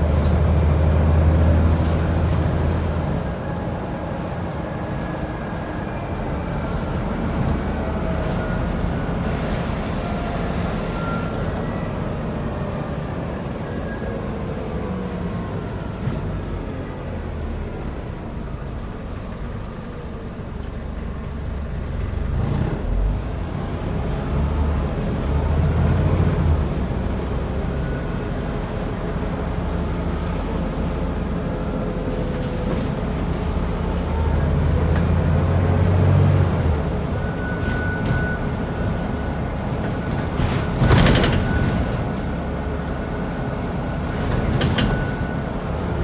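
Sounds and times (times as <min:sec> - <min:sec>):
bus diesel engine running: 0:00.0 - 0:46.0.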